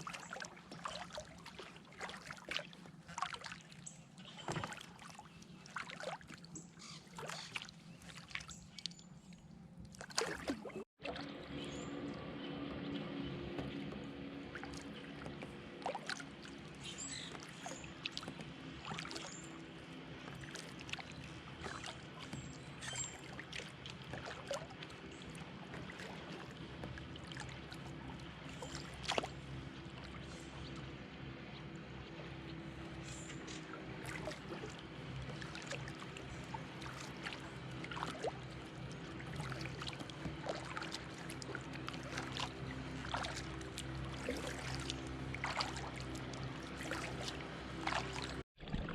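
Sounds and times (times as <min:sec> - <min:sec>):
paddle splashes and drips: 0:00.0 - 0:48.9.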